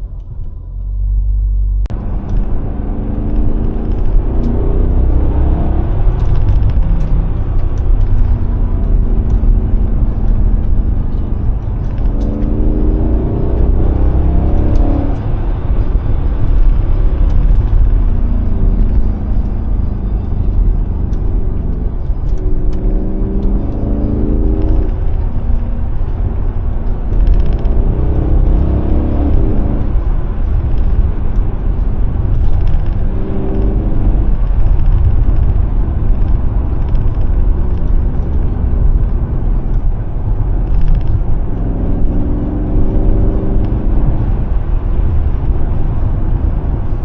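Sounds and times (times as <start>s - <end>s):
low road rumble: 0.0s - 47.0s
car engine revving through gears: 1.2s - 47.0s.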